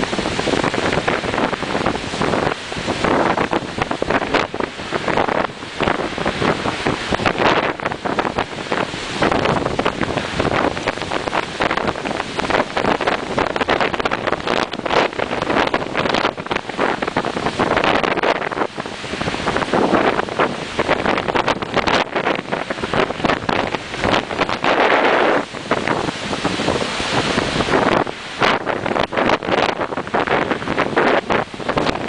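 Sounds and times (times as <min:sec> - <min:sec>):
boat wash churning: 0:00.0 - 0:32.0
rough sea rushing: 0:00.0 - 0:32.0
wind buffeting microphone: 0:00.0 - 0:32.0.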